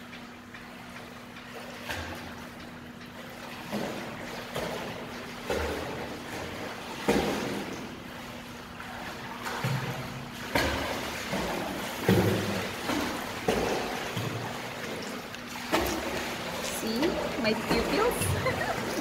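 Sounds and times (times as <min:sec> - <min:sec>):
swimmer splashing water: 0:00.0 - 0:19.0.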